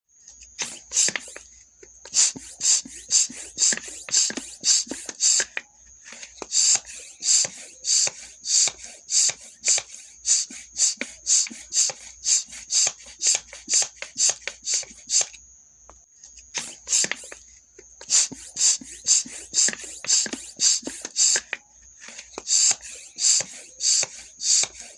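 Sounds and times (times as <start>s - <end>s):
bicycle pump hissing: 0.6s - 15.4s, 16.5s - 24.9s.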